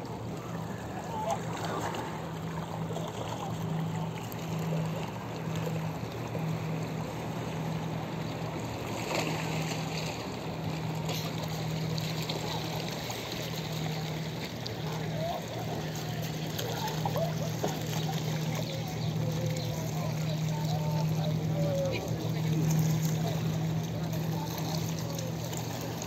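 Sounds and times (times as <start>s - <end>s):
steady low hum: 0.0s - 26.0s
water lapping against rocks: 0.0s - 26.0s.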